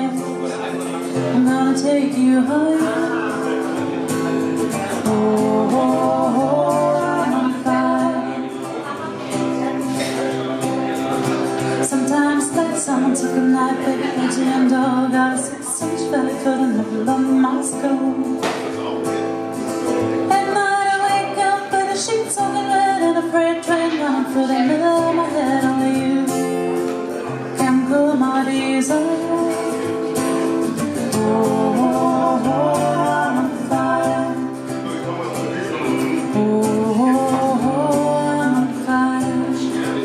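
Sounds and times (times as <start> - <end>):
woman singing into microphone: 0.0 - 3.8, 4.9 - 8.8, 11.7 - 18.4, 20.2 - 26.8, 27.5 - 34.8, 36.2 - 40.0
strummed acoustic guitar: 0.0 - 40.0.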